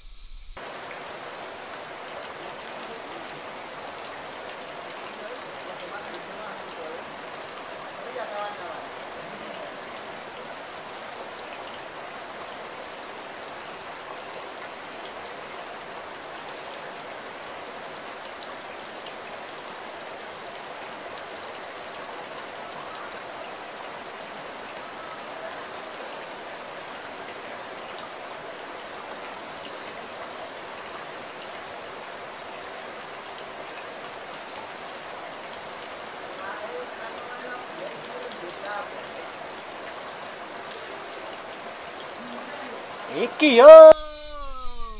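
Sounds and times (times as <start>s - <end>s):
rain or running water hiss: 0.0s - 44.9s.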